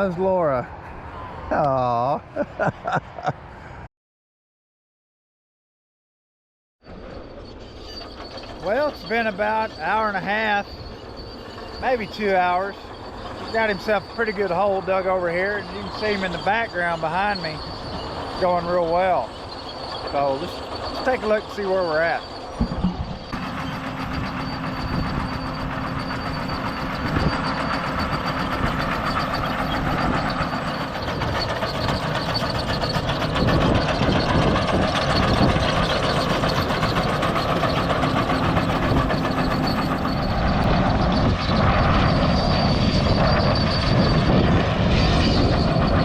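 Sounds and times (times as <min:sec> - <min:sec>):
earthmoving machine engine rumble: 0:06.8 - 0:46.0.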